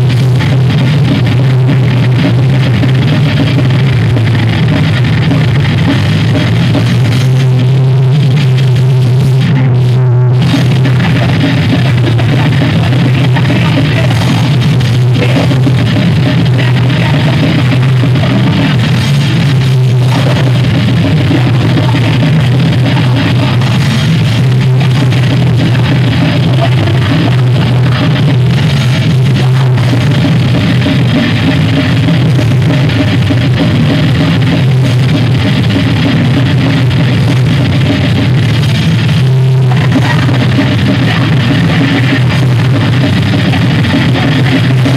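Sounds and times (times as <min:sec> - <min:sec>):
bass guitar: 0:00.0 - 0:44.9
distorted electric guitar: 0:00.0 - 0:44.9
drum kit: 0:00.0 - 0:44.9.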